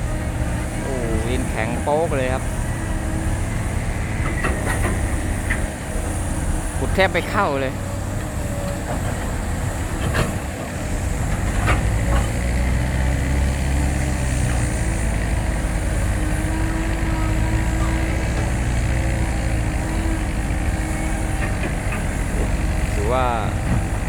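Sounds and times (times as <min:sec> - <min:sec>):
excavator diesel engine under load: 0:00.0 - 0:24.0.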